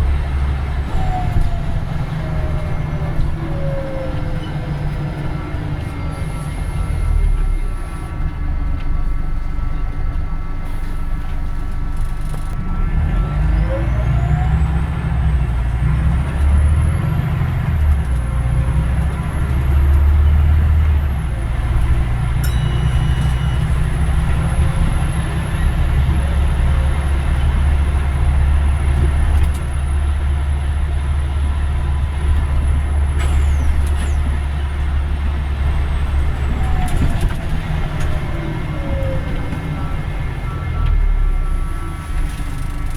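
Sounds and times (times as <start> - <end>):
bus engine drone: 0.0 - 42.9.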